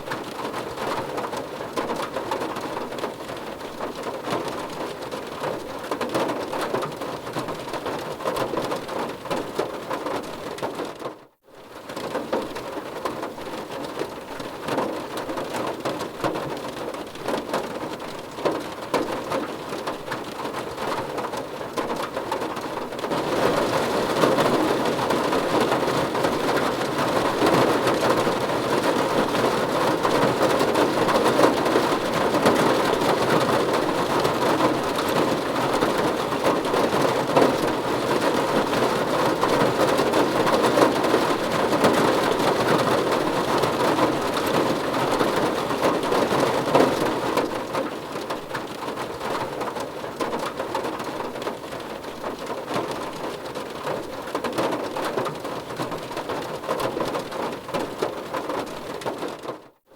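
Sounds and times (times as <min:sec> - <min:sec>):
rain on a car roof: 0:00.0 - 0:59.9.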